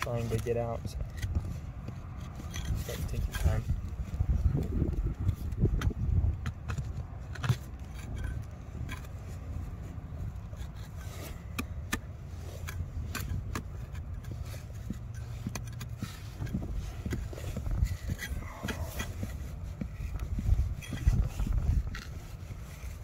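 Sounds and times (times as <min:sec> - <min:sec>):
steel tool scraping rock: 0:00.0 - 0:09.6, 0:10.2 - 0:23.0.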